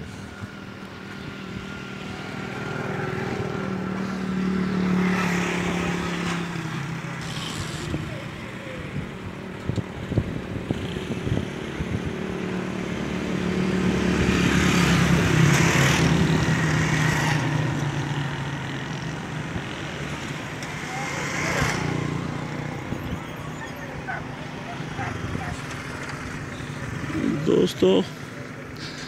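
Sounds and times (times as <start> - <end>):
vehicle engine passing by: 1.6 - 9.0, 10.7 - 28.1.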